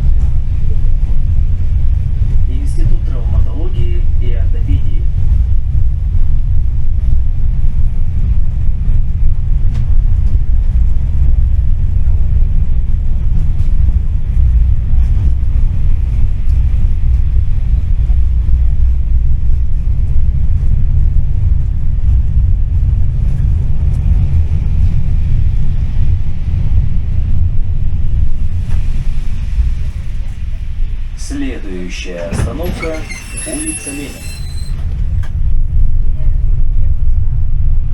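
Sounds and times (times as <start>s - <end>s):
tram rumbling: 0.0s - 37.9s.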